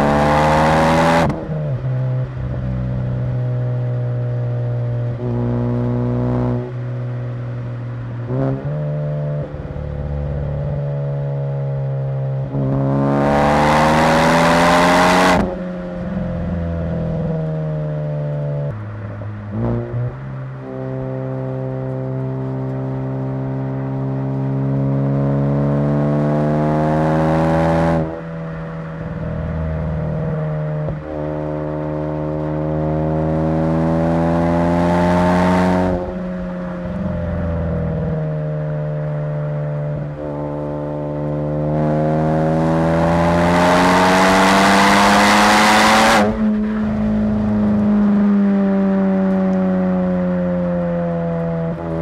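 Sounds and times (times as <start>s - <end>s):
car engine accelerating hard: 0.0s - 18.8s, 19.4s - 52.0s.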